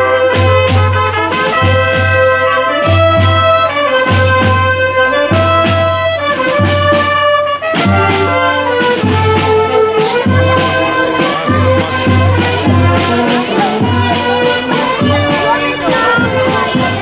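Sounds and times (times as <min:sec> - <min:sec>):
clarinets and saxophones: 0:00.0 - 0:17.0
steady drum beat: 0:00.0 - 0:17.0
street band playing: 0:00.0 - 0:17.0.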